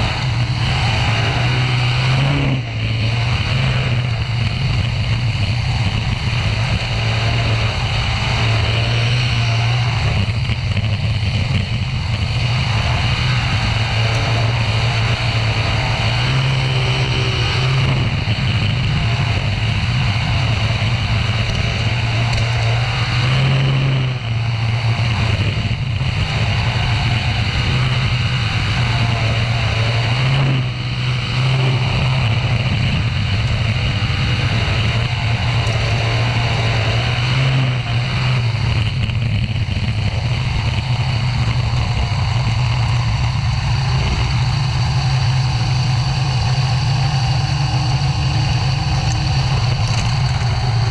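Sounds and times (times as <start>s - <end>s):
race car engine droning: 0.0s - 50.9s.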